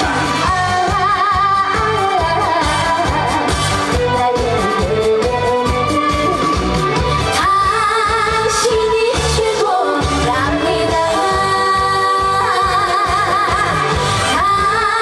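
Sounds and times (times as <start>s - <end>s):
woman singing with vibrato: 0.0s - 6.6s, 7.3s - 15.0s
backing track with steady beat: 0.0s - 15.0s.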